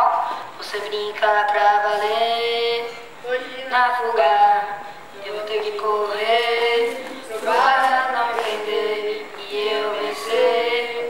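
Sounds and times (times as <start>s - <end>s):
voices singing unaccompanied: 0.0s - 11.0s.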